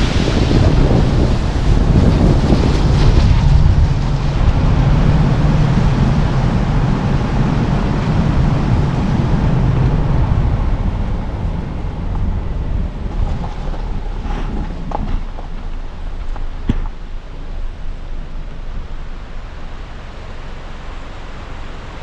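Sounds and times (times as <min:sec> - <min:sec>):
car tyre and engine noise: 0:00.0 - 0:22.0
low rumble: 0:00.0 - 0:22.0.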